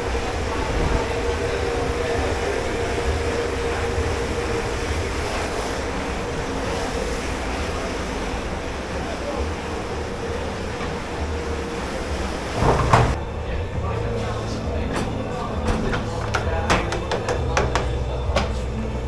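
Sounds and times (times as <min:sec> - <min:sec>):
dishwashing machinery running: 0:00.0 - 0:19.0.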